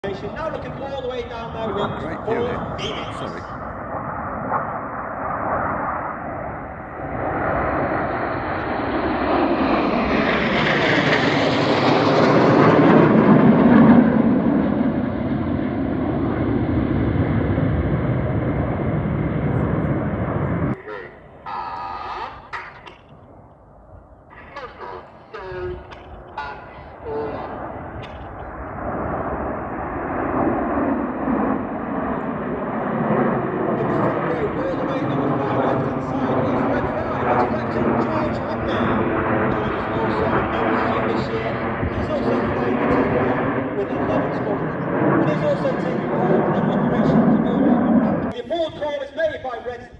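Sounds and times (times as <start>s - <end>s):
jets flying by: 0.0s - 48.4s.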